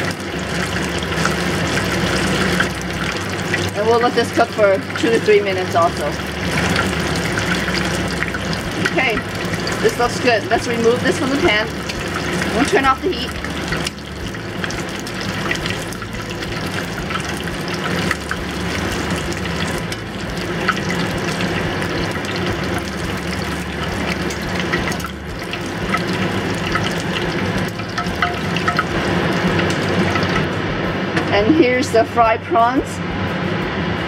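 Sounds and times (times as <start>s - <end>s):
oil sizzling and bubbling: 0.0s - 32.2s.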